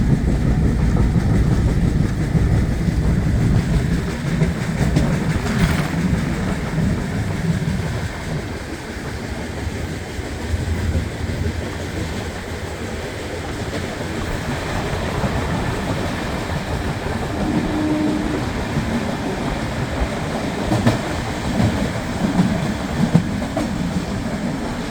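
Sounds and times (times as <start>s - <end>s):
train rumbling on track: 0.0s - 24.9s
wheels rattling on rails: 0.0s - 24.9s.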